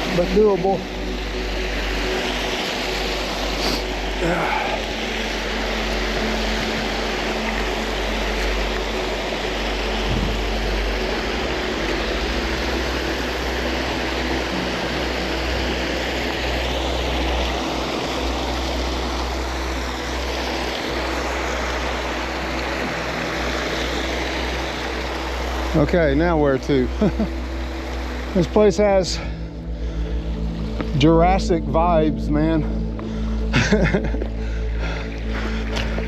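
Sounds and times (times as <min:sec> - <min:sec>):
low rumble: 0:00.0 - 0:36.0
water rushing in a creek: 0:00.0 - 0:36.0.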